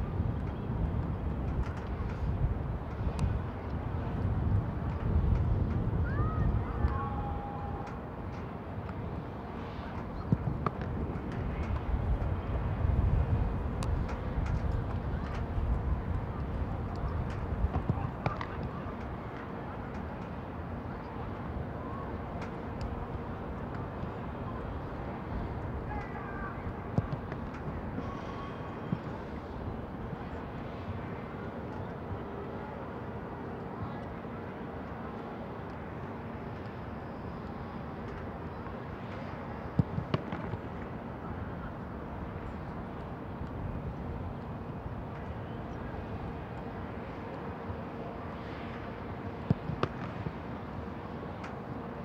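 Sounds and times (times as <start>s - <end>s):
low rumbling background noise: 0.0s - 52.0s
outdoor background noise: 0.0s - 52.0s
faint distant voices: 1.6s - 52.0s.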